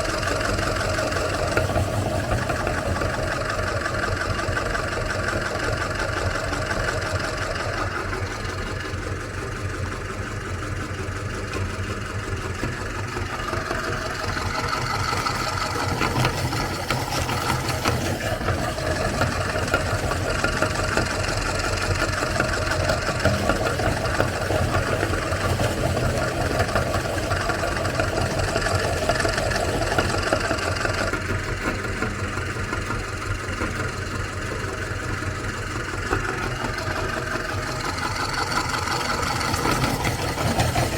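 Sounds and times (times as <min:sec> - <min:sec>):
electric meat grinder running: 0:00.0 - 0:40.9.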